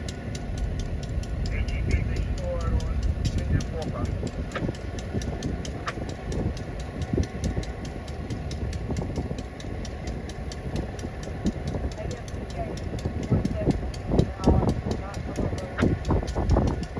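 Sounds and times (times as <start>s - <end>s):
faint rapid ticking: 0.0s - 16.9s
locomotive engine idling: 0.0s - 16.9s.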